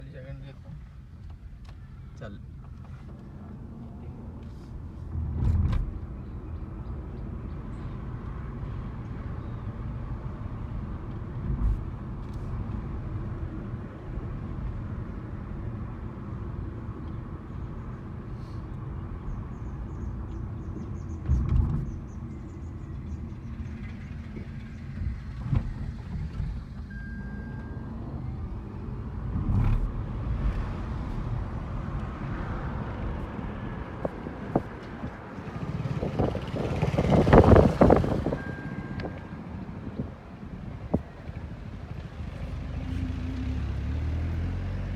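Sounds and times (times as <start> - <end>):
road and tyre rumble: 0.0 - 44.9.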